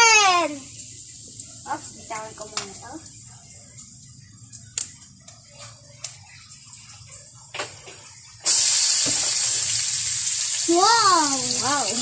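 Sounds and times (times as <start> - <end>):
chicken sizzling in hot oil: 0.0 - 4.3, 5.4 - 12.0.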